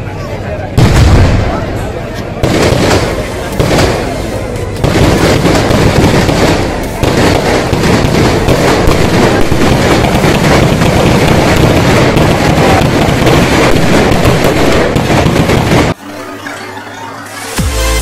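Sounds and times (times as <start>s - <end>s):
firecrackers crackling: 0.7s - 16.7s.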